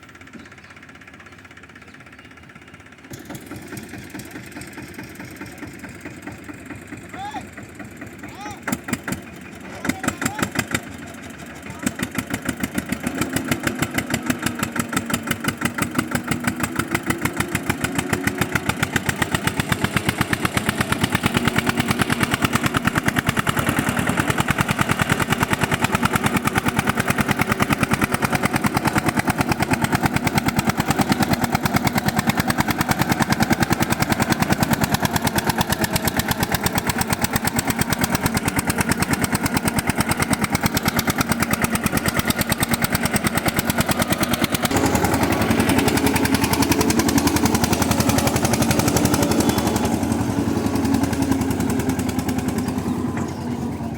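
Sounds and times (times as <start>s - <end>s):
diesel tractor engine chugging: 0.0s - 53.9s.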